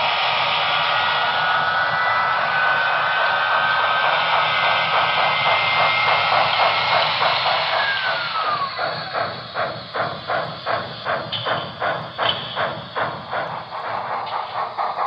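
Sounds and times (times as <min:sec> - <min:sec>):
steam exhaust chuffs: 0:00.0 - 0:15.0
steam hiss: 0:00.0 - 0:15.0.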